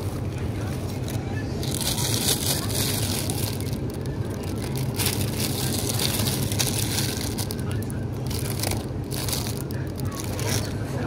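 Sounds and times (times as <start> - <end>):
steady low hum: 0.0 - 11.0
plastic wrap crinkling: 0.8 - 10.8.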